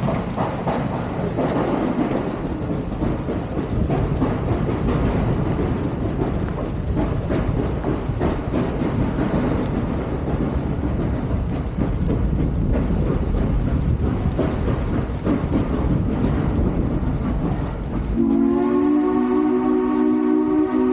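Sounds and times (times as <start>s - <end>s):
steam train rumbling: 0.0s - 20.9s.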